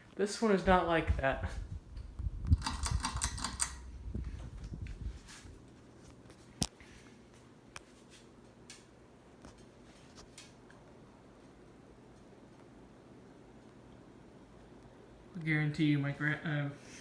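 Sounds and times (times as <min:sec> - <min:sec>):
ceiling fan running: 0:00.0 - 0:17.0.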